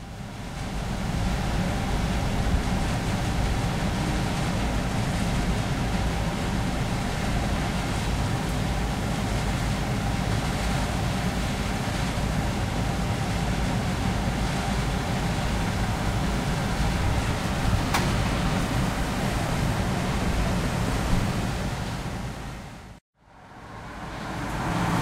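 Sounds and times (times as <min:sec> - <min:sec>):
low rumble with hiss: 0:00.0 - 0:25.0.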